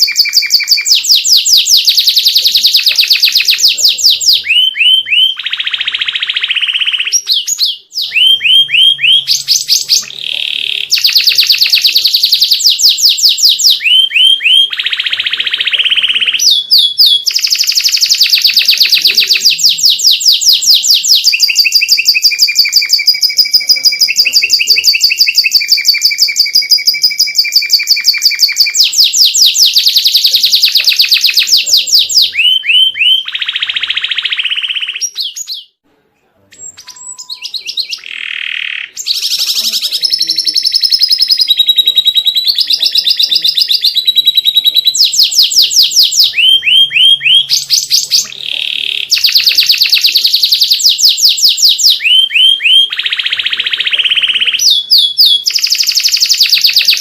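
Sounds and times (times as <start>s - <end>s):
canary singing trills: 0.0s - 35.8s, 36.5s - 57.0s.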